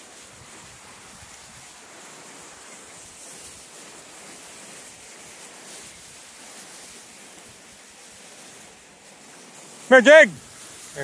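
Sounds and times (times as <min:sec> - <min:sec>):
tall grass rustling: 0:00.0 - 0:11.0.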